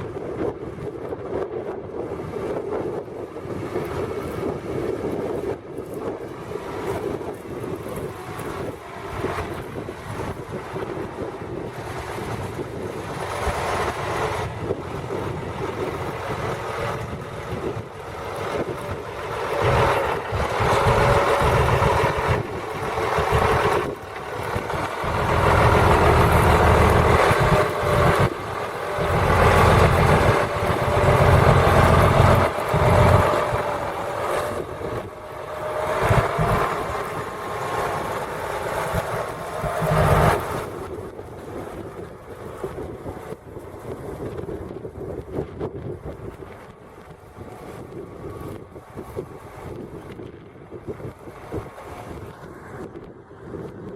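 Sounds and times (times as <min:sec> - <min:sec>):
tractor diesel engine running: 0:01.9 - 0:53.7.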